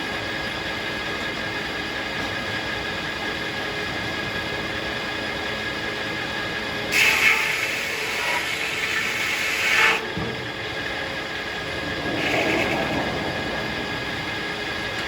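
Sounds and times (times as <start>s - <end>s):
circular sawmill droning: 0.0s - 15.0s.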